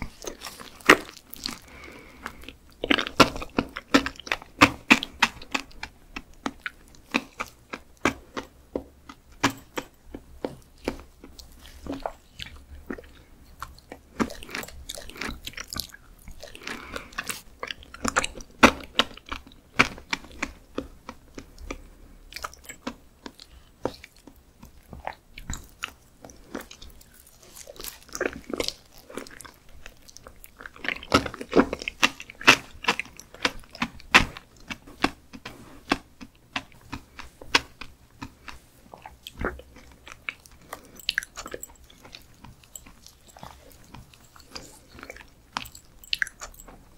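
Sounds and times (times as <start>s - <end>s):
mouth clicks and smacks chewing: 0.0s - 46.9s.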